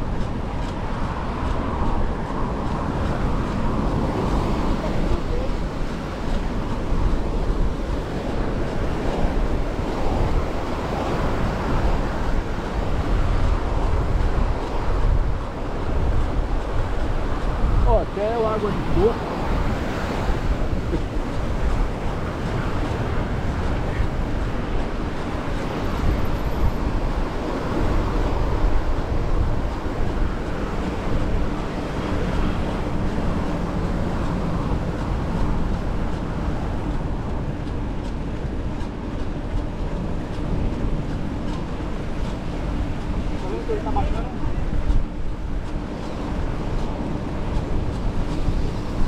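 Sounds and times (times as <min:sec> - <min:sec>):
wind rushing over microphone: 0:00.0 - 0:49.0.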